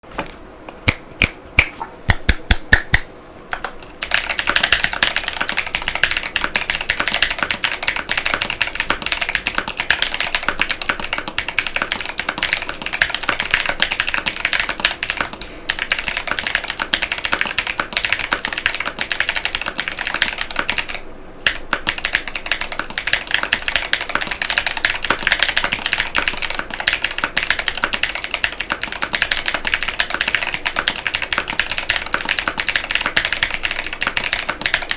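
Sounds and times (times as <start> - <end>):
mechanical keyboard typing: 2.3 - 34.9.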